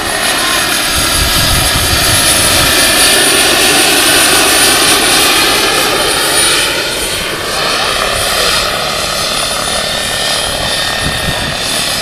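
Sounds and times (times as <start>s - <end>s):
turbine whine: 0.0s - 12.0s.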